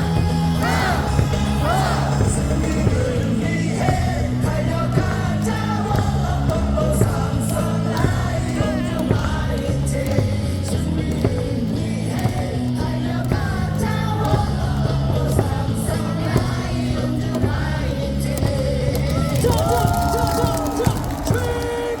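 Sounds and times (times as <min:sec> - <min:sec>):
cheer song over loudspeakers: 0:00.0 - 0:22.0
crowd singing and shouting: 0:00.0 - 0:22.0.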